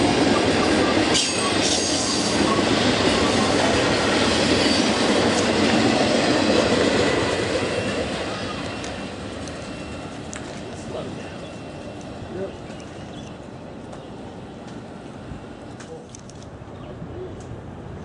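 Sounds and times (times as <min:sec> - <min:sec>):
train wheels rolling on rails: 0:00.0 - 0:16.7.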